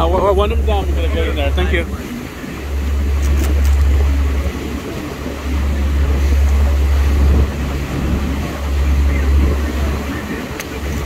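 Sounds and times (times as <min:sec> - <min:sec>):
boat engine rumble: 0:00.0 - 0:11.0
water rushing from wake: 0:00.0 - 0:11.0
wind on microphone: 0:00.0 - 0:11.0.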